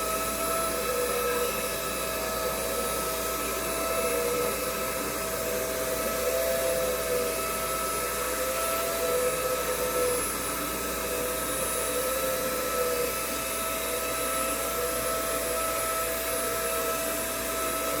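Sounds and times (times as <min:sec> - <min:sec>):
suction fan whine: 0:00.0 - 0:18.0.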